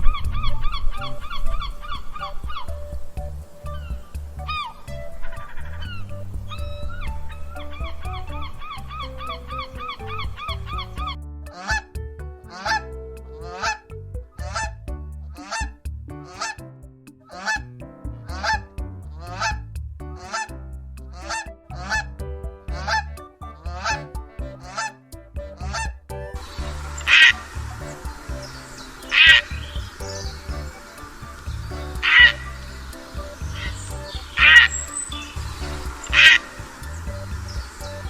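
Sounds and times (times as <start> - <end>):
soft background music: 0.0 - 38.0.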